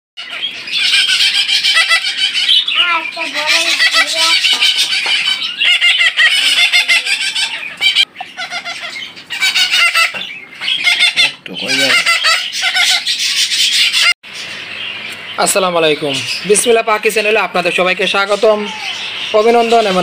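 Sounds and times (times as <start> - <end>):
parakeet chicks begging calls: 0.2 - 20.0.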